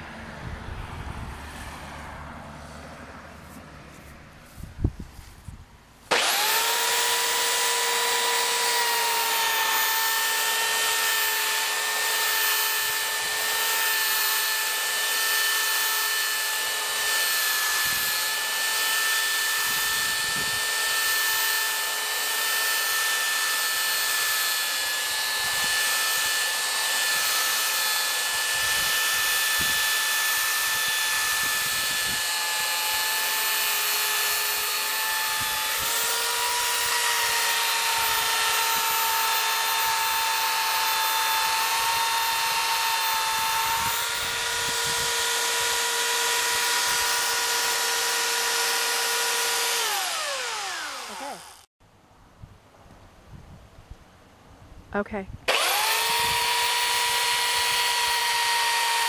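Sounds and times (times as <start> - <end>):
electric belt sander running: 6.1 - 51.7, 55.5 - 59.0.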